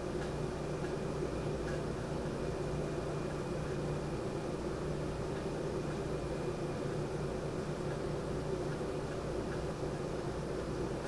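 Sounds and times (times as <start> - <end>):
air conditioner fan humming: 0.0 - 11.0.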